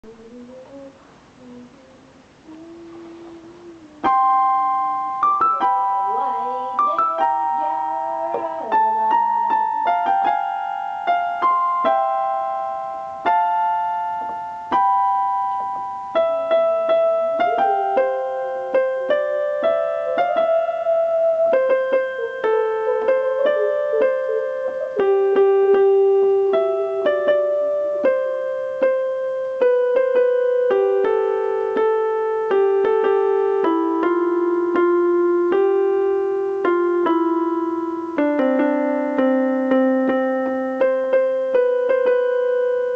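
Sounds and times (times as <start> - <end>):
slow piano music: 0.0 - 42.9.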